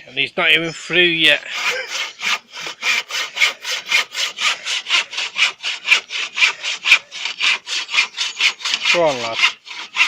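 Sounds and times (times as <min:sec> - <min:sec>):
handsaw cutting wood: 0:01.3 - 0:10.0.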